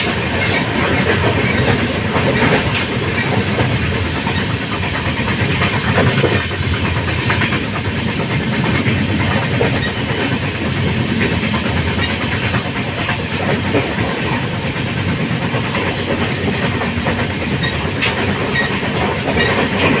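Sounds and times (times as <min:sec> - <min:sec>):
train coach rattling: 0:00.0 - 0:20.0
train wheels on track: 0:00.0 - 0:20.0.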